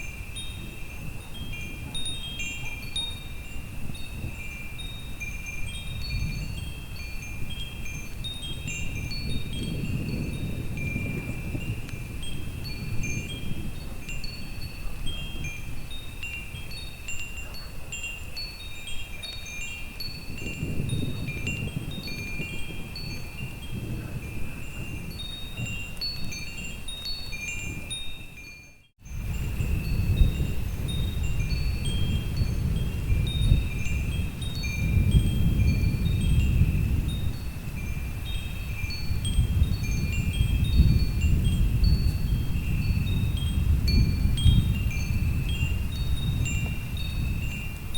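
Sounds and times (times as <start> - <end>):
wind chimes ringing: 0.0 - 47.9
wind rumble: 3.2 - 16.8, 19.9 - 28.4, 29.0 - 47.9.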